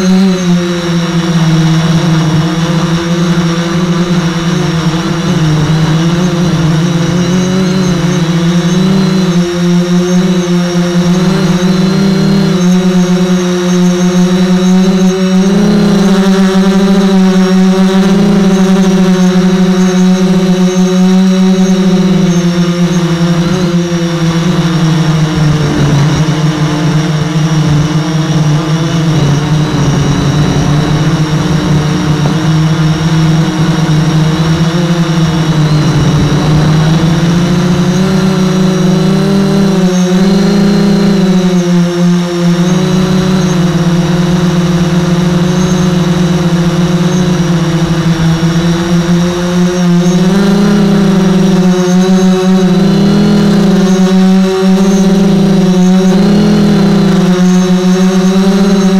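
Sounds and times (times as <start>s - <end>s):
model boat motor humming: 0.0s - 58.9s.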